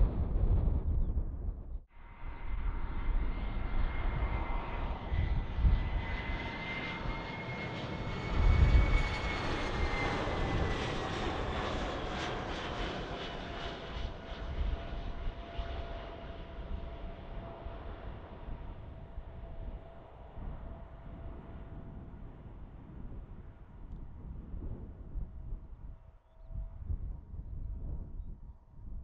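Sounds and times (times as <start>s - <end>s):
wind rumble on microphone: 0.0s - 29.0s
airliner engines whine passing: 2.0s - 26.0s.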